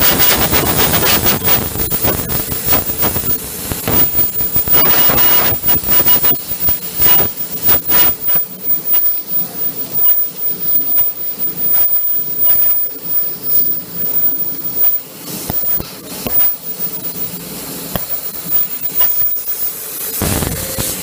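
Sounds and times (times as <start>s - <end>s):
laser cutter cutting plastic: 0.0s - 21.0s.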